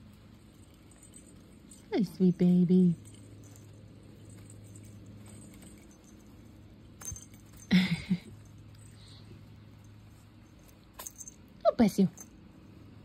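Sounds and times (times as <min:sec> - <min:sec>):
small clicks and rustles: 0:00.0 - 0:01.9, 0:02.7 - 0:12.7
metal bracelet jingling: 0:00.0 - 0:12.7.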